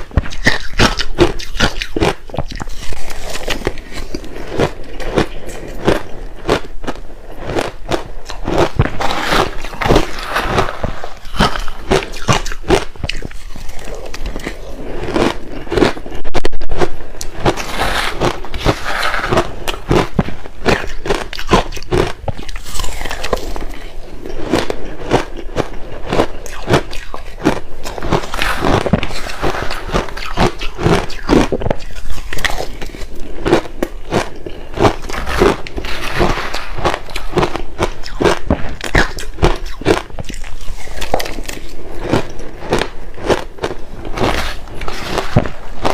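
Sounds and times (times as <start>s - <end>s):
chewing crushed ice: 0.0s - 45.9s.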